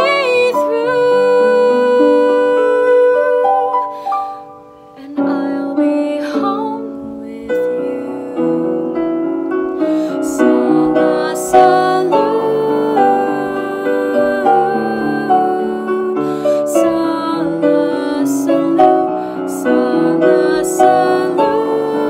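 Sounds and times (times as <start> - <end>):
woman singing a ballad: 0.0 - 9.1, 9.8 - 22.0
piano accompaniment: 0.0 - 22.0.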